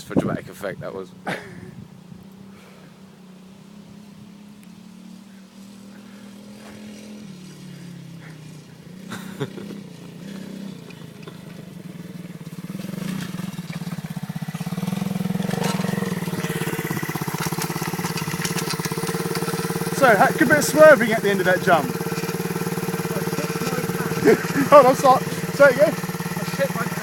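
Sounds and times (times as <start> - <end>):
motorbike engine running: 4.8 - 27.0.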